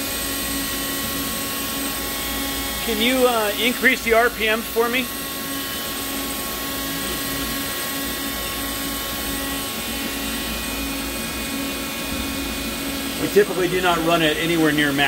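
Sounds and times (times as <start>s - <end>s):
lathe humming and whining: 0.0s - 15.0s.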